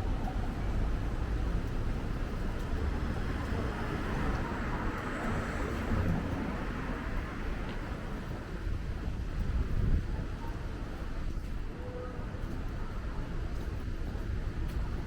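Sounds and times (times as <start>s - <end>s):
wind buffeting microphone: 0.0s - 12.5s
street traffic passing: 0.0s - 15.0s.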